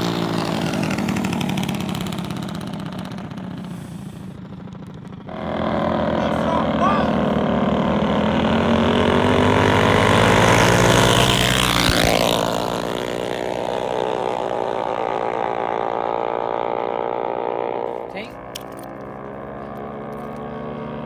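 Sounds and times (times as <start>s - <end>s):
minibike engine passing by: 0.0s - 21.0s.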